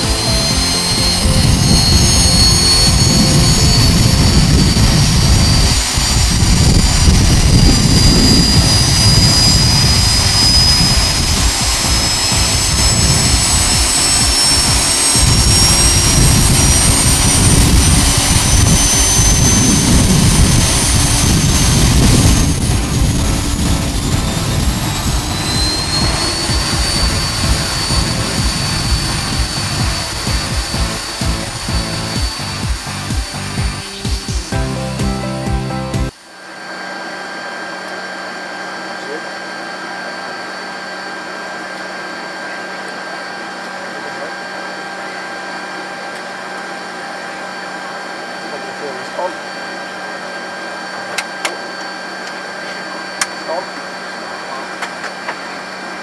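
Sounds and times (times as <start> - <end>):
jet engines roaring and whining: 0.0 - 56.0.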